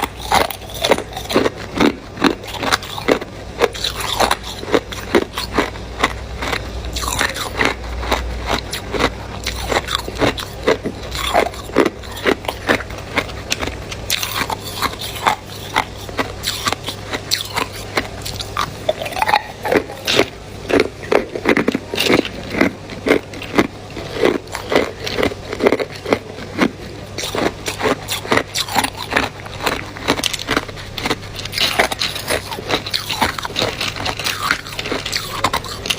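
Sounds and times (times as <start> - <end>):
ice being chewed crunching: 0.0 - 35.9.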